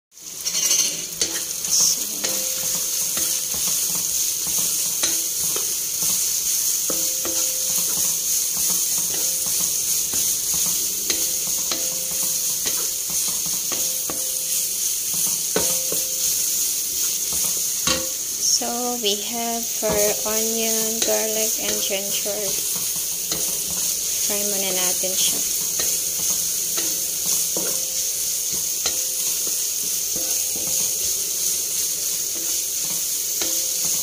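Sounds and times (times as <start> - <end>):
onion sizzling in hot oil: 0.1 - 34.0.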